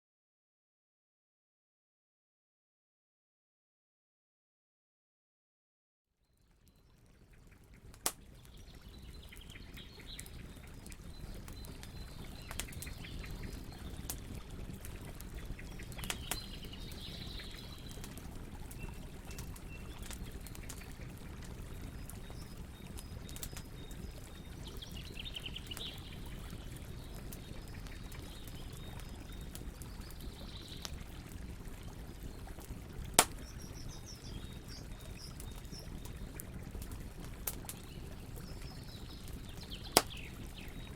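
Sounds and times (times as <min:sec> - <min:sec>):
small birds chirping: 0:06.3 - 0:40.9
flowing water: 0:06.4 - 0:40.9
wood fire crackling and popping: 0:06.6 - 0:40.9.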